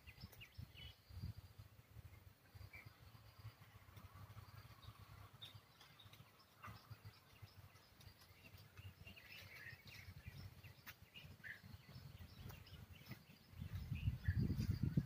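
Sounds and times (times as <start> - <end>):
bird chirps: 0.0 - 15.0
low rumble on microphone: 0.0 - 15.0.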